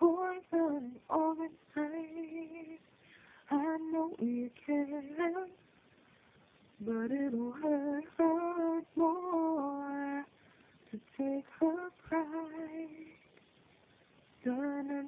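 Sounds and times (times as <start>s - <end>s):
woman singing unaccompanied: 0.0s - 5.6s, 6.7s - 13.3s, 14.4s - 15.0s.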